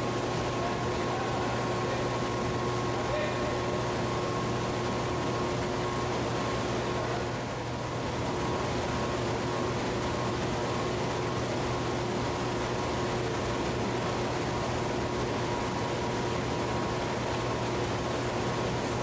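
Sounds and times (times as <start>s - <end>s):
turbine generator humming: 0.0s - 19.0s.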